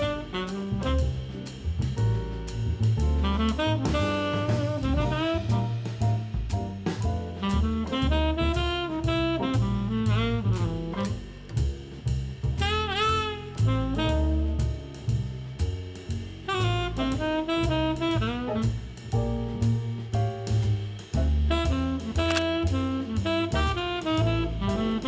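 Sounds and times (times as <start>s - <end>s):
upbeat jazz music: 0.0s - 25.0s.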